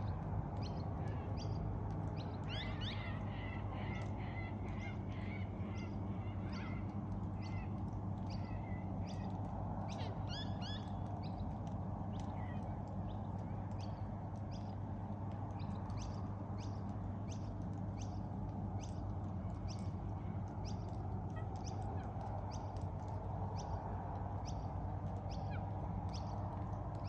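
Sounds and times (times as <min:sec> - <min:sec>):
small birds calling: 0:00.0 - 0:14.9, 0:15.5 - 0:27.0
steady low rumble: 0:00.0 - 0:27.0.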